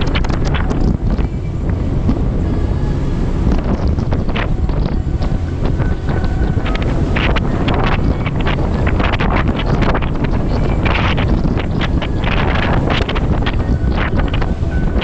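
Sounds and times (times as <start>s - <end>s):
motorboat engine rumble: 0.0s - 15.0s
water rushing from wake: 0.0s - 15.0s
wind buffeting microphone: 0.0s - 15.0s.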